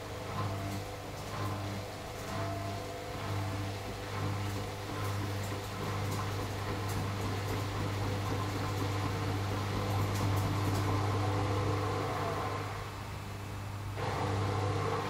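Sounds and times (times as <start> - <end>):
mechanical whir: 0.0 - 13.2
washing machine humming: 0.0 - 15.0.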